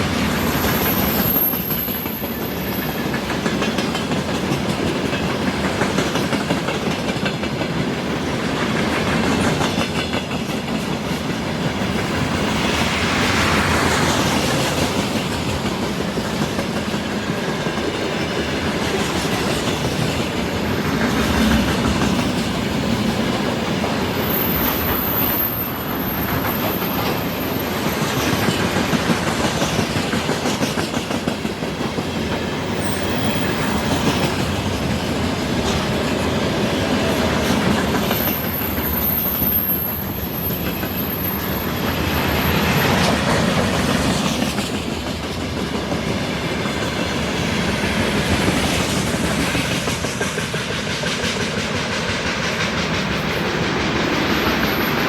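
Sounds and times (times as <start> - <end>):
train wheels clattering: 0.0 - 55.0.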